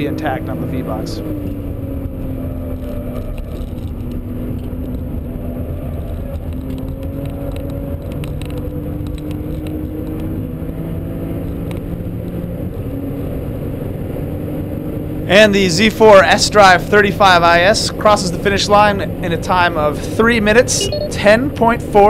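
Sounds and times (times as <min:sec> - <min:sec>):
car engine running hard: 0:00.0 - 0:22.0.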